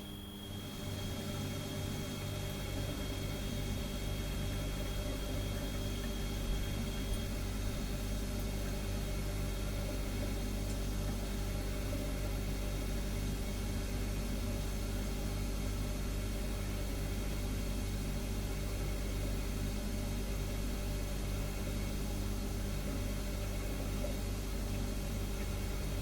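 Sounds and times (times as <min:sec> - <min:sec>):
refrigerator humming: 0:00.0 - 0:26.0.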